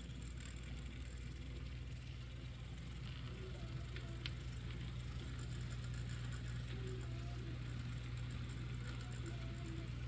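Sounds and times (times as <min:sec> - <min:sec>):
model train motor hum: 0:00.0 - 0:10.0.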